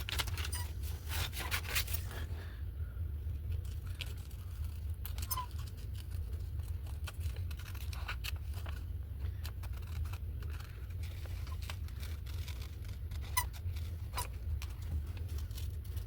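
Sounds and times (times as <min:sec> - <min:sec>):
paper rustling: 0:00.0 - 0:02.2, 0:03.5 - 0:16.0
steady low hum: 0:00.0 - 0:16.0.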